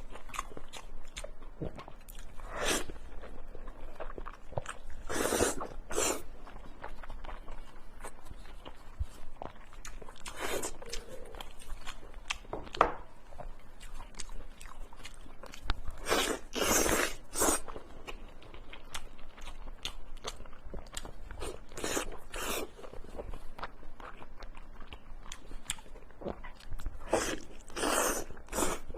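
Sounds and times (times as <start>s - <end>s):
chewing and biting food: 0.0s - 28.9s.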